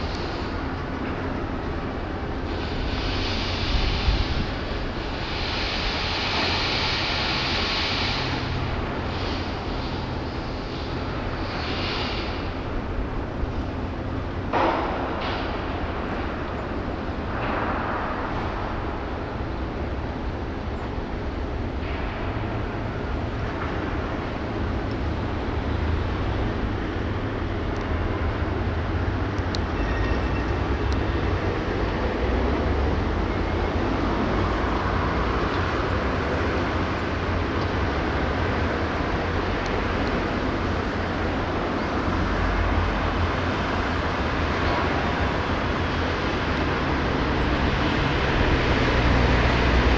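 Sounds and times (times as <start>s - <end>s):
noisy hiss: 0.0s - 49.9s.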